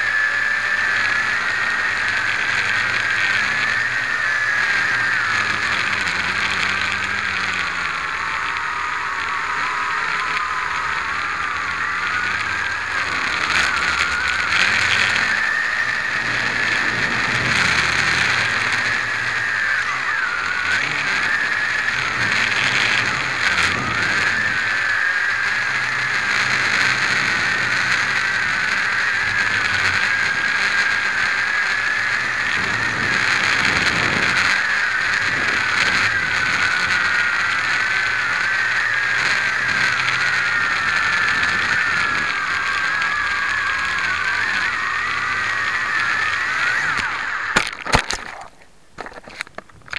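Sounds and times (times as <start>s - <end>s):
quadcopter motors whining: 0.0s - 49.9s.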